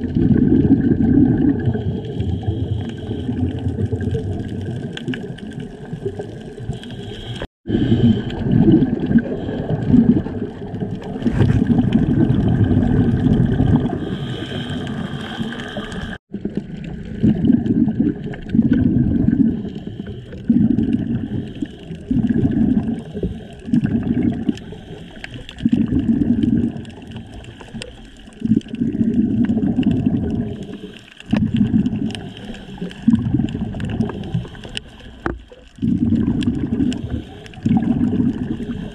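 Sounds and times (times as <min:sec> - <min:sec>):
underwater bubbling and gurgling: 0:00.0 - 0:38.9.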